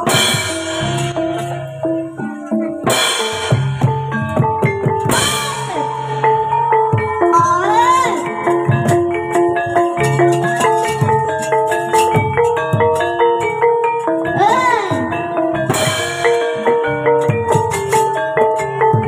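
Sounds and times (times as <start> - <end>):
metallophones playing melody: 0.0 - 19.0.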